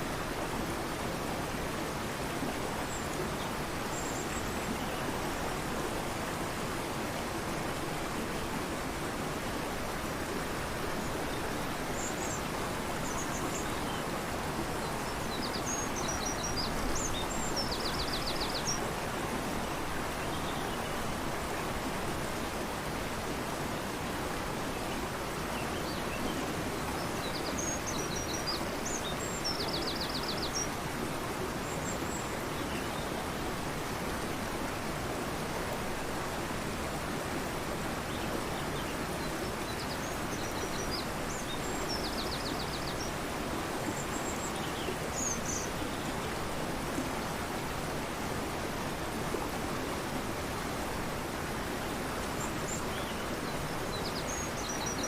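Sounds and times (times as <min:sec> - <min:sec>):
fast-flowing river rushing: 0:00.0 - 0:55.0.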